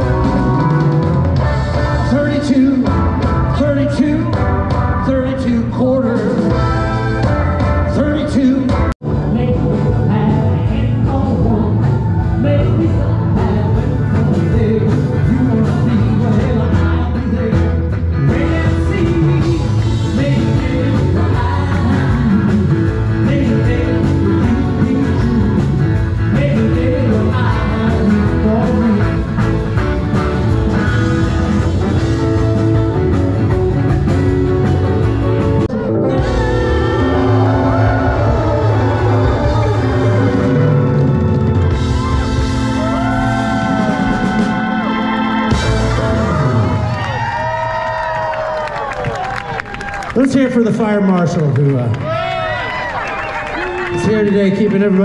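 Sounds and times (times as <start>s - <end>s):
person singing: 0.0s - 33.1s, 35.3s - 46.9s
live rock band: 0.0s - 50.8s.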